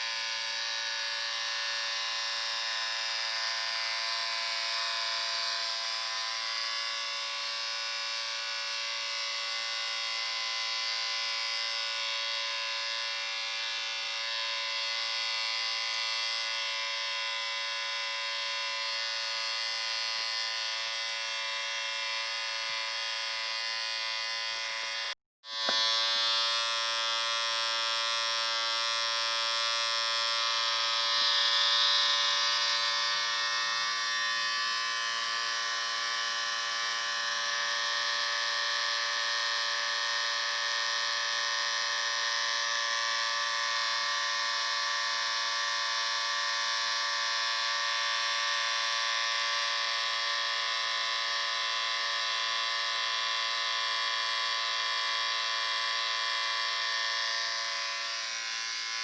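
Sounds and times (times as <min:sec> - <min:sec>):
electric shaver buzzing: 0:00.0 - 0:59.0.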